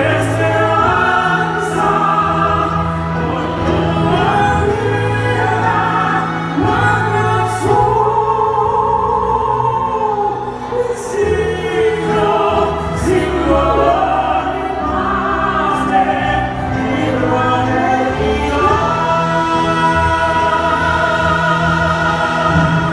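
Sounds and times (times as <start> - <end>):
orchestra playing: 0.0 - 22.9
voices singing operatic ballad: 0.0 - 22.9.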